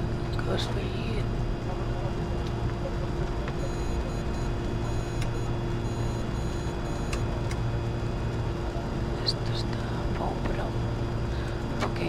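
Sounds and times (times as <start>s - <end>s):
faint high-pitched pulsing tones: 0.0s - 11.5s
cockpit airflow and engine hum: 0.0s - 12.0s.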